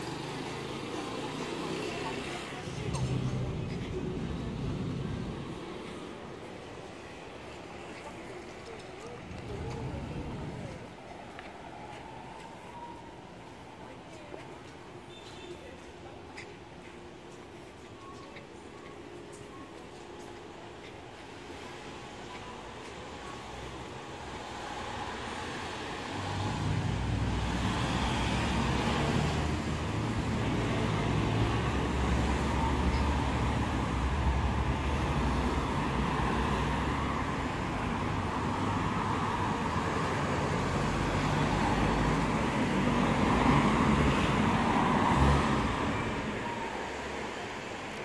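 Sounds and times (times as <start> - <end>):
traffic rumble and hiss: 0.0 - 48.0.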